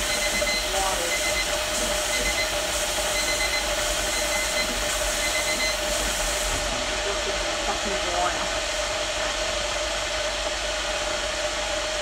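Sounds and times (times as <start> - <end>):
electric kettle heating: 0.0 - 12.0.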